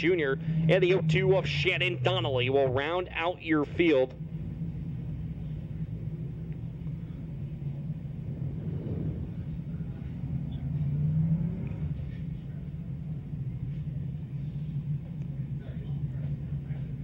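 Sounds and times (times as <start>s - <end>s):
low engine rumble of race cars: 0.0s - 17.0s.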